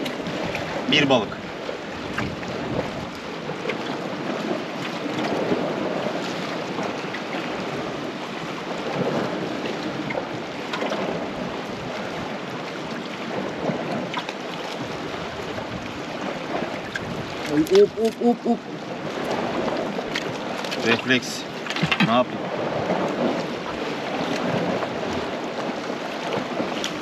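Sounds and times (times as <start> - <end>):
wind buffeting microphone: 0.0 - 14.2, 14.8 - 27.0
sea waves on rocky shore: 0.0 - 27.0.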